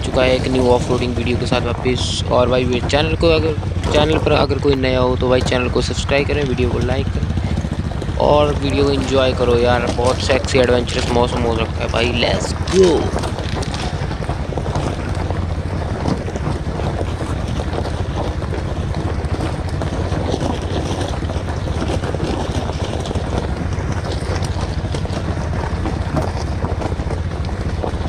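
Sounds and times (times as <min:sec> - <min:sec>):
motorcycle engine running: 0:00.0 - 0:28.0
tyres rolling over gravel: 0:00.0 - 0:28.0
wind buffeting microphone: 0:00.0 - 0:28.0.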